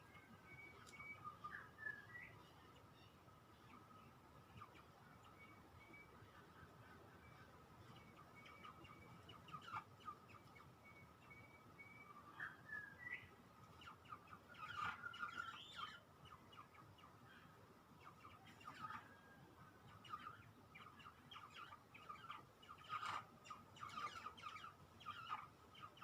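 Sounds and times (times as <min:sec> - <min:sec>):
nestling birds chirping: 0:00.0 - 0:26.0.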